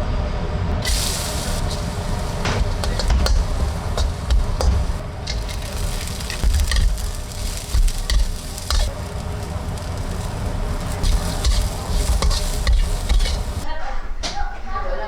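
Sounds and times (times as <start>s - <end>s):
food being stirred hissing: 0.7s - 13.7s.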